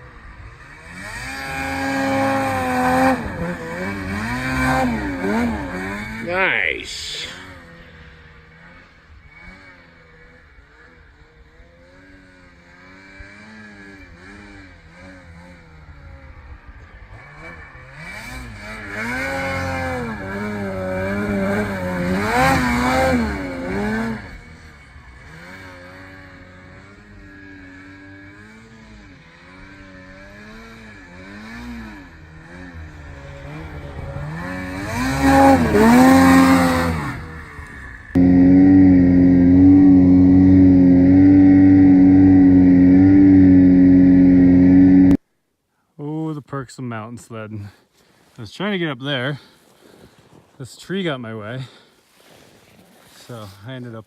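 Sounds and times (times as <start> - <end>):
snowmobile engine revving: 0.0 - 45.2.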